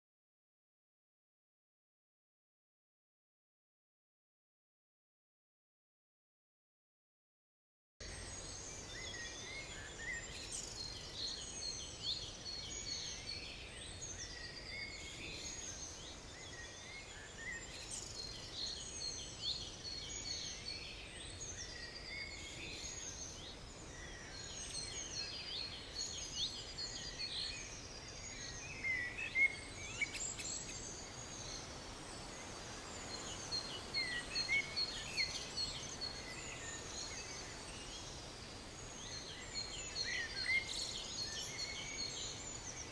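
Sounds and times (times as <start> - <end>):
faint open air hiss: 8.0 - 42.9
small birds chirping: 8.0 - 42.9.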